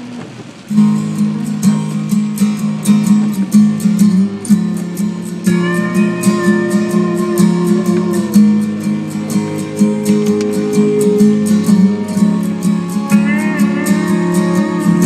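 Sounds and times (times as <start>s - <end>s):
country music on car stereo: 0.0s - 15.0s.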